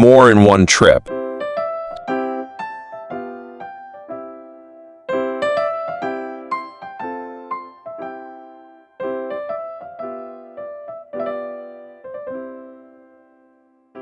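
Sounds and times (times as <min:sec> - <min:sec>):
light piano melody: 0:01.0 - 0:14.0.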